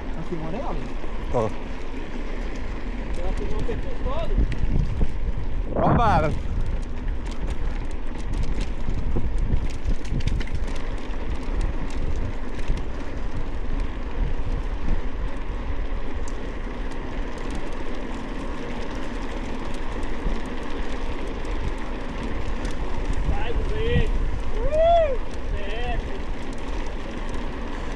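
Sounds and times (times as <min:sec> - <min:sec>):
wind rumble on microphone: 0:00.0 - 0:27.9.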